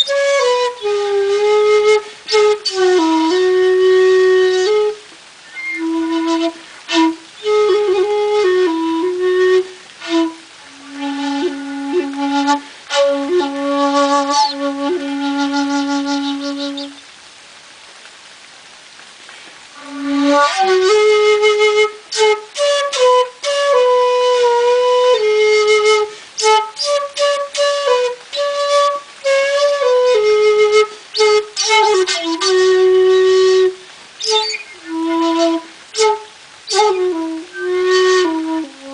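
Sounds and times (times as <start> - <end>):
bamboo flute playing: 0.0 - 17.4, 19.7 - 38.9.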